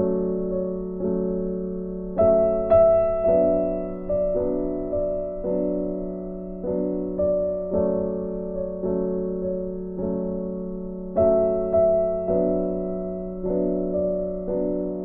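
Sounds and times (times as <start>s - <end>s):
soft electric piano chords: 0.0s - 15.0s.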